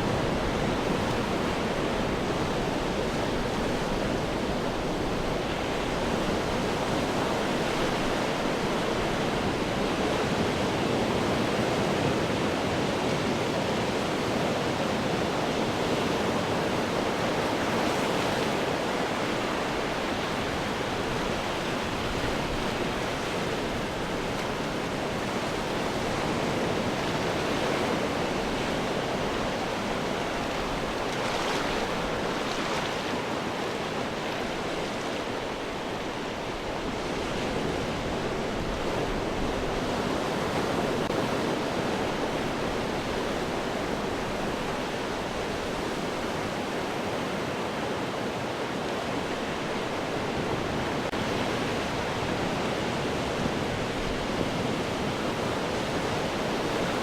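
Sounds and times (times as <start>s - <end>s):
ocean surf washing over rocks: 0.0s - 57.0s.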